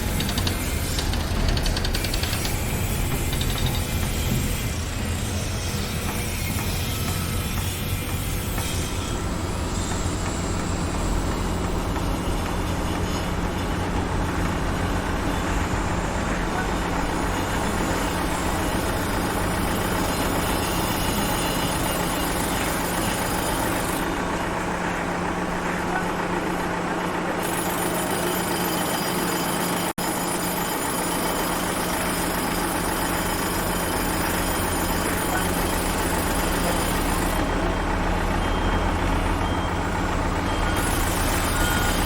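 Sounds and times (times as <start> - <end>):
heavy vehicle engine rumbling: 0.0 - 28.0, 32.9 - 42.0.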